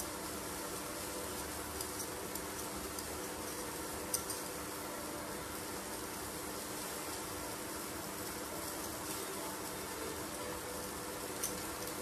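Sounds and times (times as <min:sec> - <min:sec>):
induction cooktop hum: 0:00.0 - 0:12.0.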